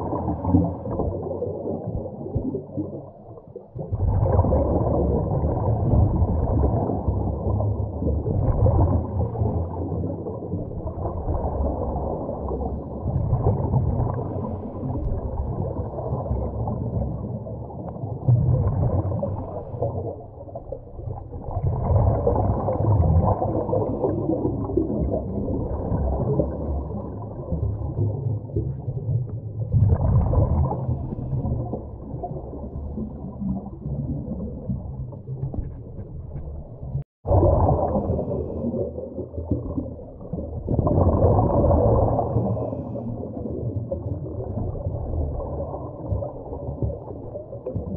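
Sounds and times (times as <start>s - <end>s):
diver exhaling bubbles: 0.0s - 35.8s, 37.2s - 47.9s.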